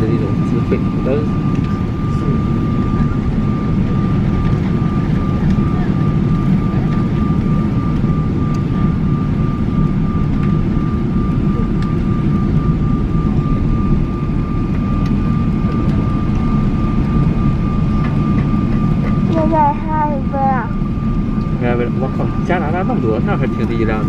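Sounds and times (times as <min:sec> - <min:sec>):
constant thin whine: 0:00.0 - 0:24.0
rumble of engines and air system: 0:00.0 - 0:24.0.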